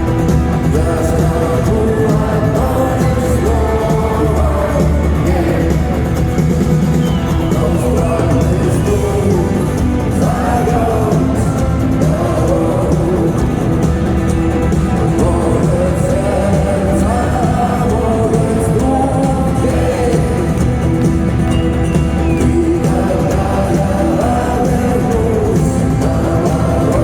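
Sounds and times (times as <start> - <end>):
live rock band with vocals: 0.0 - 27.0.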